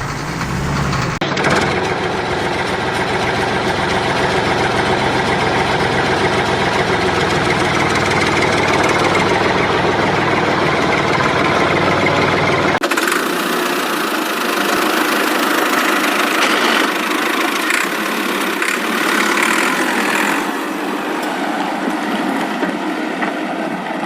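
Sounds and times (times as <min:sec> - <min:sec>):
diesel engine running with knock: 0:00.0 - 0:24.0.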